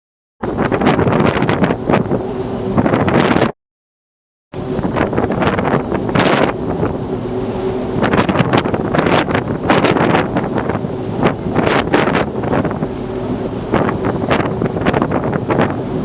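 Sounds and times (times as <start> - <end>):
wind buffeting microphone: 0.4 - 3.5, 4.6 - 16.0.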